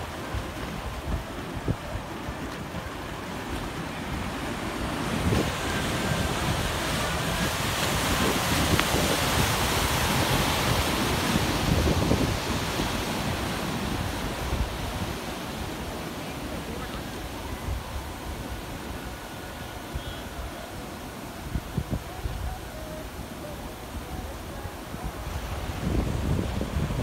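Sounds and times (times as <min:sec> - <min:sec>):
ocean surf breaking: 0:00.0 - 0:27.0
wind rumble on microphone: 0:00.0 - 0:27.0.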